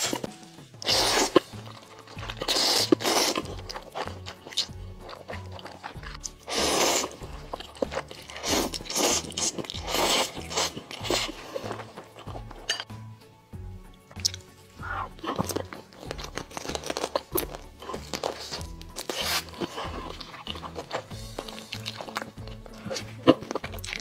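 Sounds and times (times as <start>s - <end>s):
noodles slurped: 0.0s - 12.8s, 14.2s - 24.0s
chewing: 0.0s - 12.9s, 14.0s - 24.0s
background music with steady beat: 0.0s - 24.0s.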